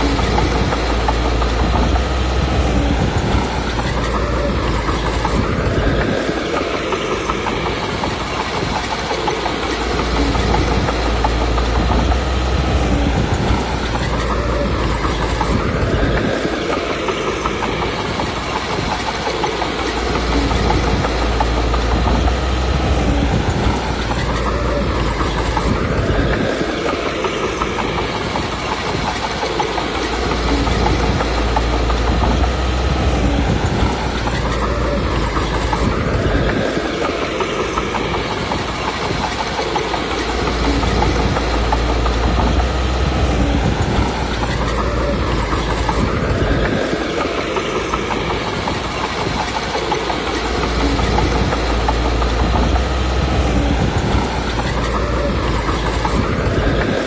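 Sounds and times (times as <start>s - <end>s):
bulldozer diesel engine under load: 0.0s - 57.0s
steel tracks clattering: 0.0s - 57.0s.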